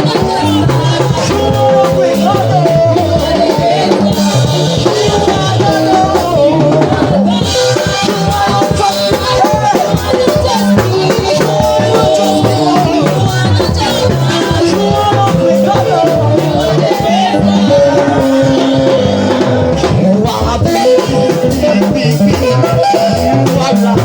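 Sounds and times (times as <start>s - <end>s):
drums and shakers: 0.0s - 24.0s
held pitched melody: 0.0s - 24.0s.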